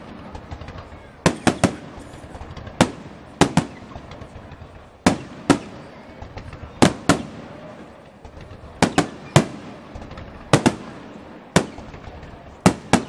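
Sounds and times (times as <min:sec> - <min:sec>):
firework pops and crackles: 0:00.0 - 0:13.0
firework shells bursting: 0:00.0 - 0:13.0.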